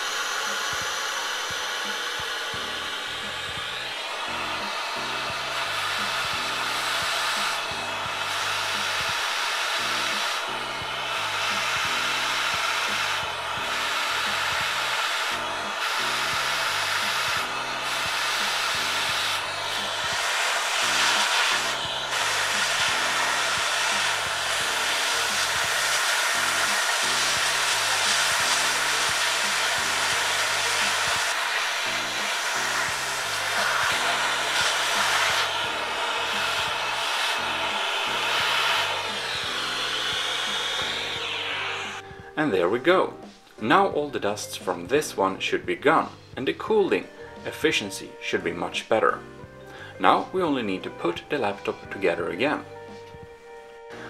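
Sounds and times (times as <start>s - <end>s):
vacuum cleaner rushing hiss: 0.0s - 44.9s.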